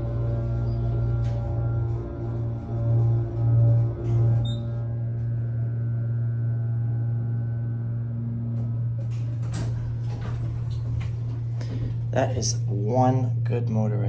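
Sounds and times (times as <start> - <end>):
elevator pump motor humming: 0.0 - 14.0.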